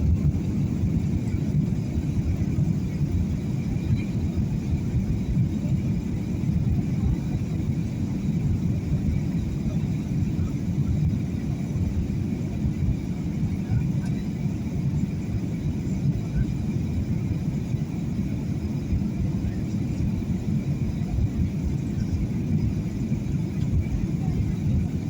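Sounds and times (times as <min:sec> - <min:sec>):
airliner engines rumbling: 0:00.0 - 0:25.0.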